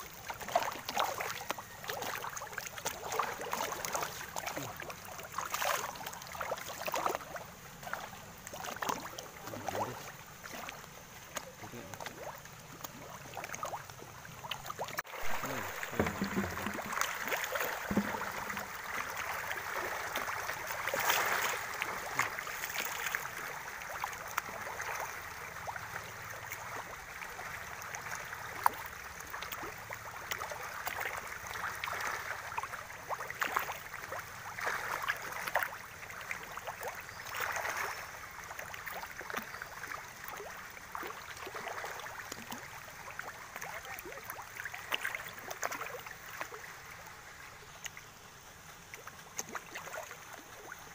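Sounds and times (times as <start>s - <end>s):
pond water splashing: 0.0s - 50.9s.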